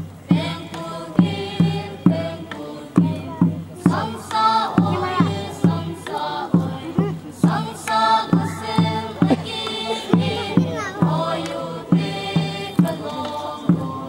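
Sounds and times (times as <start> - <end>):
steady drum beat: 0.0 - 14.0
group singing a chant: 0.2 - 14.0.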